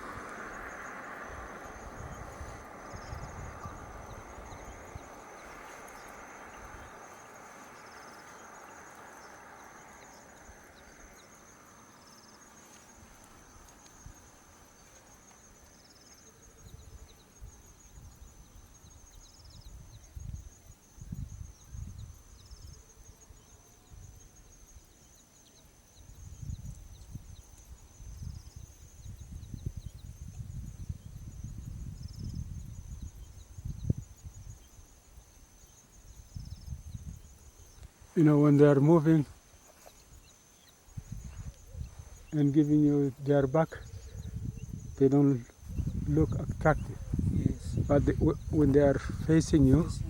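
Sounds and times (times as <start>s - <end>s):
high insect drone: 0.0s - 50.0s.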